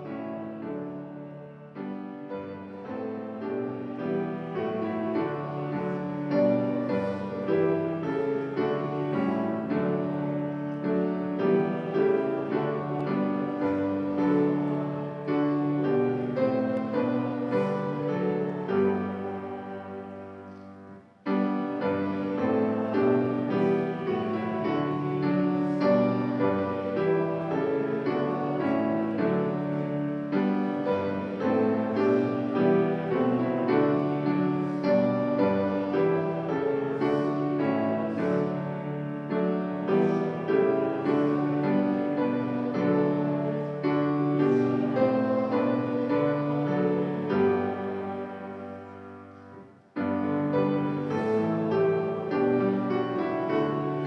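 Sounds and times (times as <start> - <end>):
piano playing a hymn: 0.0 - 54.0.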